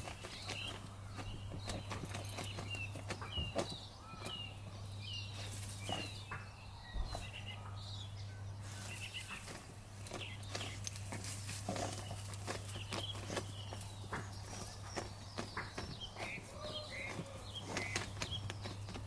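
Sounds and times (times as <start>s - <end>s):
dog paws scratching ground: 0.0s - 7.5s, 8.6s - 19.0s
small bird chirping: 0.0s - 19.0s.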